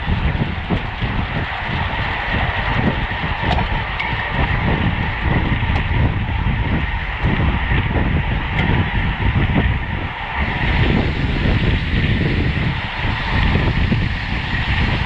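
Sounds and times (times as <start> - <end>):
wind rush and road noise: 0.0 - 15.0.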